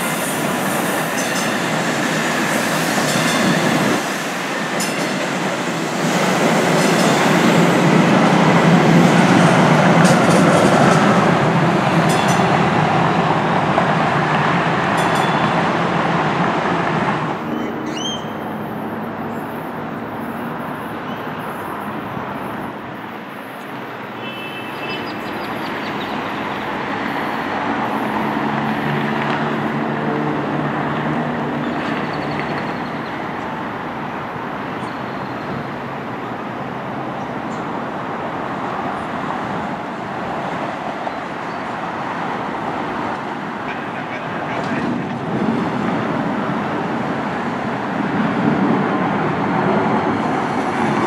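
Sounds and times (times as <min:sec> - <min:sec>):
light rail train running on tracks: 0:00.0 - 0:51.0.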